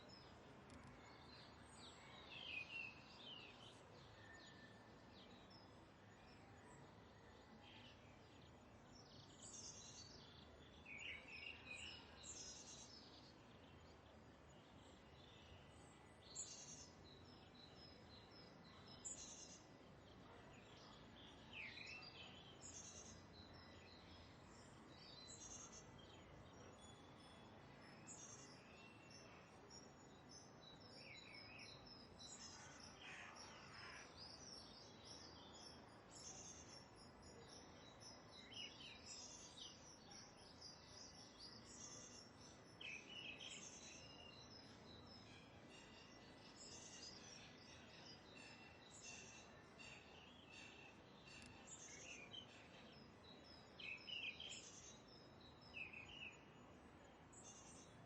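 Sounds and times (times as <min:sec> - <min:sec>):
faint bird chirps: 0:00.0 - 0:58.0
low steady hiss: 0:00.0 - 0:58.0.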